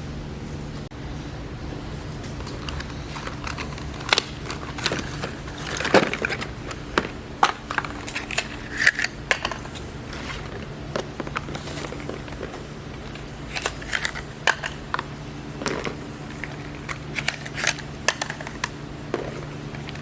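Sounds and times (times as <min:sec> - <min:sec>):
steady low hum: 0:00.0 - 0:20.0
hard objects clinking and knocking: 0:02.5 - 0:20.0.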